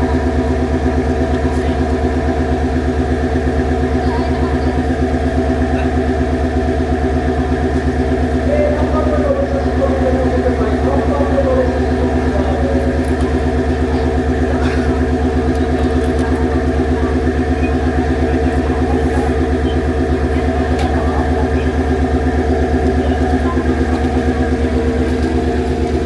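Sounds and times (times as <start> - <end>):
diesel railcar engine idling: 0.0 - 26.0.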